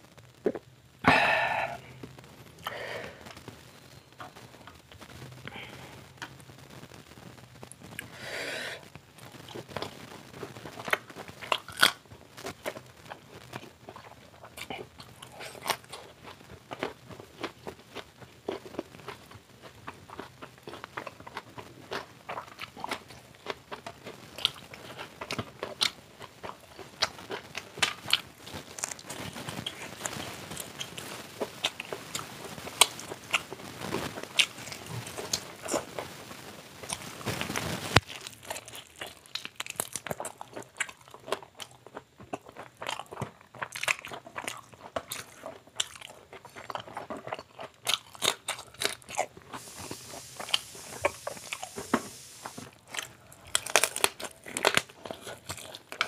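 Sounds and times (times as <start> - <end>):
crunchy bites and chewing: 9.3 - 36.2, 36.8 - 56.0.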